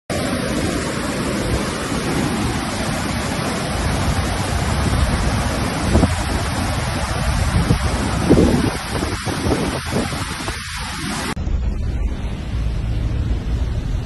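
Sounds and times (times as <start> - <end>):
floodwater rushing: 0.1 - 14.0
low fluttering rumble: 0.2 - 14.0.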